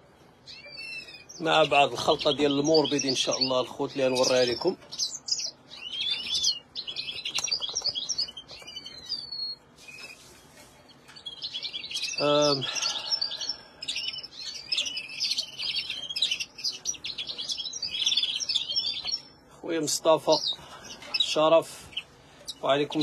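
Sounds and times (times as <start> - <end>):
songbirds chirping and twittering: 0.0 - 23.0.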